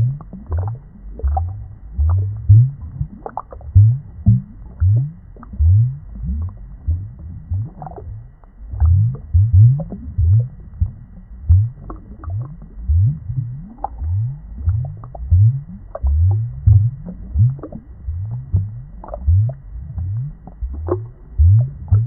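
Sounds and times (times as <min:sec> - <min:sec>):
aquarium water bubbling: 0:00.0 - 0:22.0.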